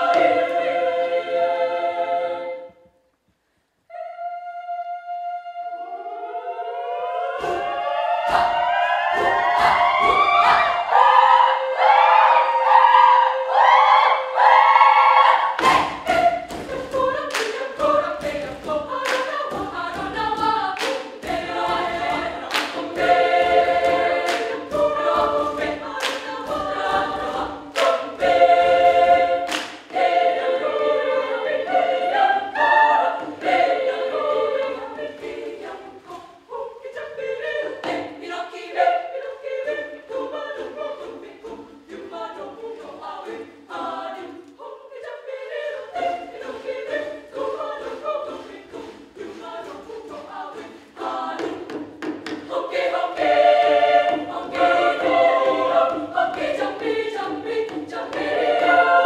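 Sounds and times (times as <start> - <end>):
children's choir singing a cappella: 0.0 - 3.0, 3.9 - 59.0.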